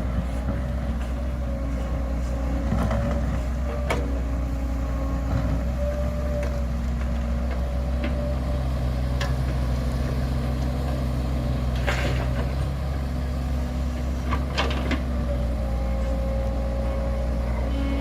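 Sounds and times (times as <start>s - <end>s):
machine engine droning: 0.0s - 18.0s.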